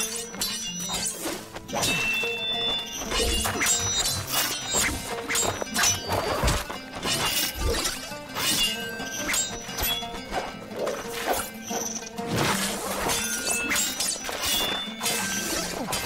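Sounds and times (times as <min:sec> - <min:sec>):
staff and sword whacks and clashes: 0:00.0 - 0:11.5, 0:12.3 - 0:16.0
background music: 0:00.0 - 0:16.0.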